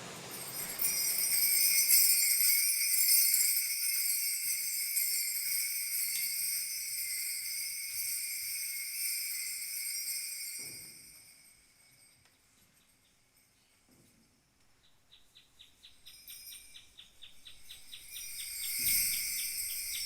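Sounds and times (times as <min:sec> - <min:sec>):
bronze bells jingling: 0:00.0 - 0:14.6, 0:15.8 - 0:20.0.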